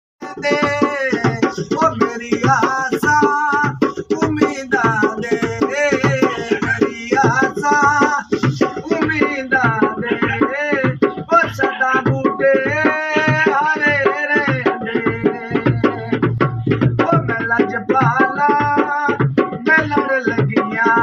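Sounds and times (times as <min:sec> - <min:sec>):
barrel drum hand beats: 0:00.2 - 0:21.0
man singing devotional song: 0:00.2 - 0:21.0.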